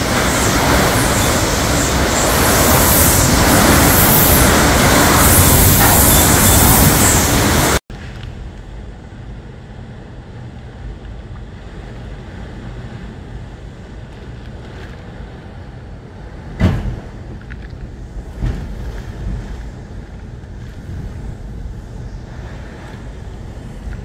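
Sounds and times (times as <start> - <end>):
hurricane wind and rain: 0.0 - 24.0.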